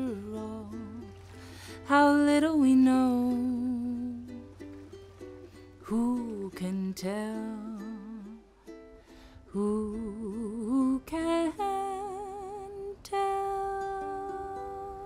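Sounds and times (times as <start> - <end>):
plucked string accompaniment: 0.0 - 15.0
woman singing wordless melody: 0.0 - 15.0.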